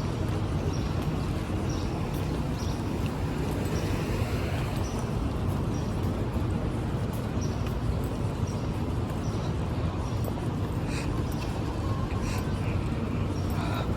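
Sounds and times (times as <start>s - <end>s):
traffic noise: 0.0s - 13.9s.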